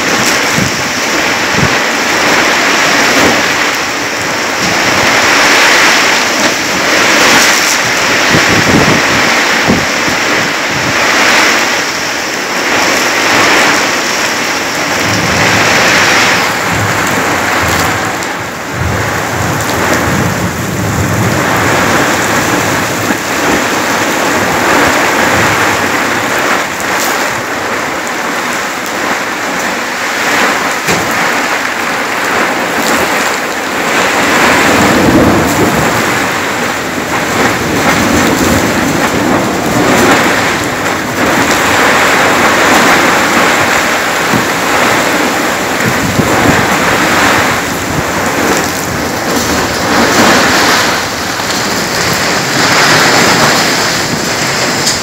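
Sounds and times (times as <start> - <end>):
heavy rain pouring: 0.0 - 55.0
thunder rumbling: 0.0 - 55.0.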